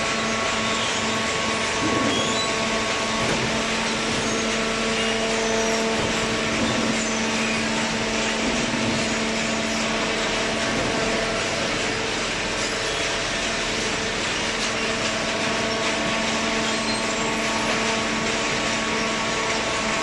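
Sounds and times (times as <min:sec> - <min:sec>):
hydraulic baler humming: 0:00.0 - 0:20.0.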